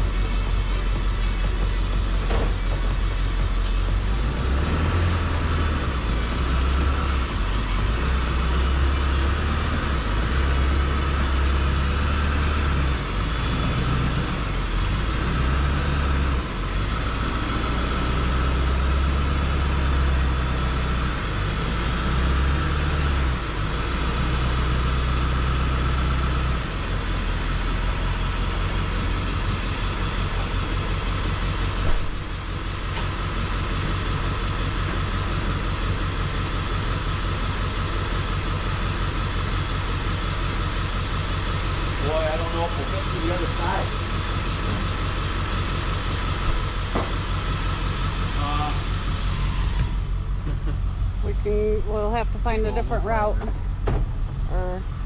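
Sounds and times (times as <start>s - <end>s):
road noise: 0.0s - 55.0s
vehicle engine: 0.0s - 55.0s.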